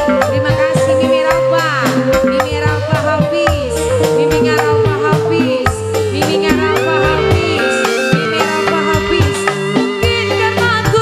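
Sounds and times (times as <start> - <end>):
bamboo flute melody: 0.0 - 10.8
bass: 0.0 - 11.0
drums struck steadily: 0.0 - 11.0.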